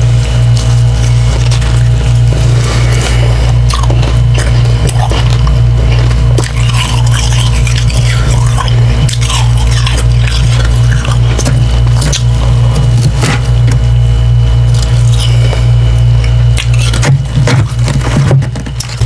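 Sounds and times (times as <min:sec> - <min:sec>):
chewing slushy ice: 0:00.0 - 0:19.0
loud low hum: 0:00.0 - 0:19.0.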